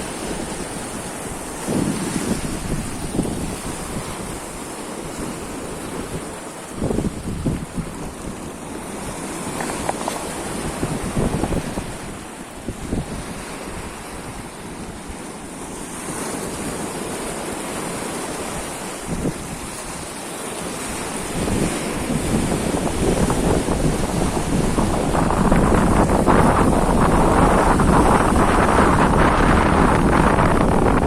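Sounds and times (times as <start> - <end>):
sea waves washing in: 0.0 - 31.0
wind buffeting microphone: 0.0 - 31.0.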